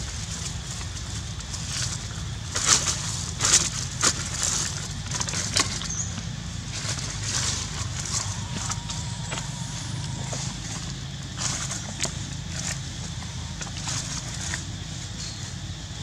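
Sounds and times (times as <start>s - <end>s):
dry leaves crunching: 0.0s - 16.0s
steady low rumble: 0.0s - 16.0s.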